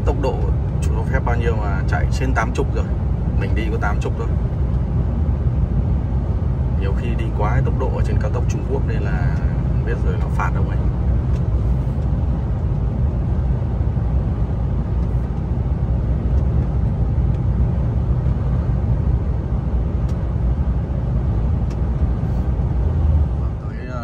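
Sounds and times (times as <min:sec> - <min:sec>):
truck engine and road rumble: 0:00.0 - 0:24.0.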